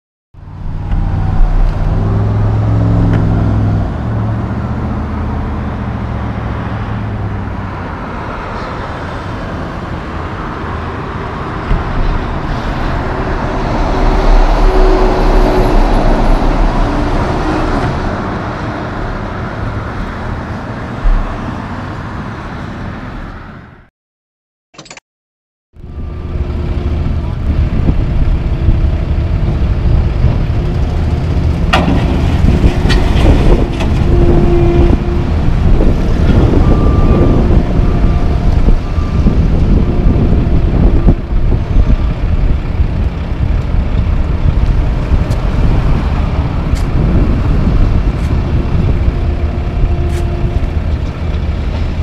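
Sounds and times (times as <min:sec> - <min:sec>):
truck diesel engine: 0:00.4 - 0:23.3, 0:25.8 - 0:52.0
road and tyre noise: 0:00.4 - 0:23.9, 0:25.8 - 0:52.0.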